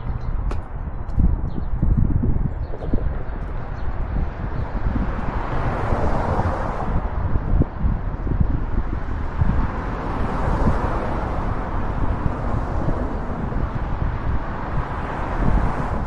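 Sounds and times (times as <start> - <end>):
wind noise on microphone: 0.0 - 16.0
cars passing: 2.1 - 16.0.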